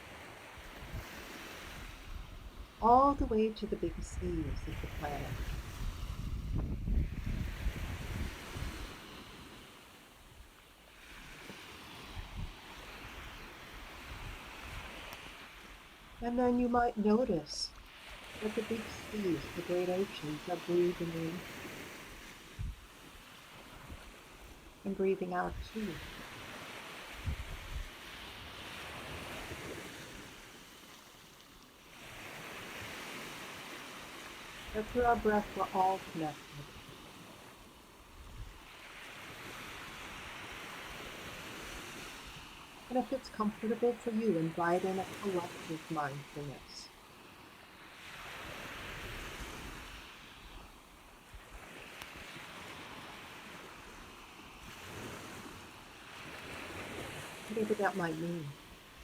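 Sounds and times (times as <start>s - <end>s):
ocean waves rushing in: 0.0s - 59.0s.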